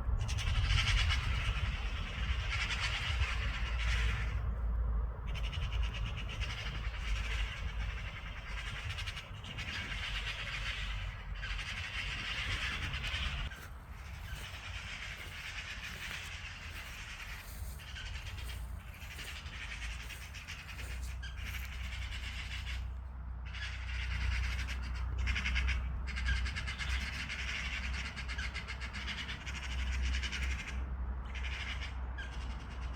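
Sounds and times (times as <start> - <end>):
low steady rumble: 0.0 - 32.9
magpie chattering: 0.2 - 4.4, 5.3 - 22.9, 23.5 - 32.9.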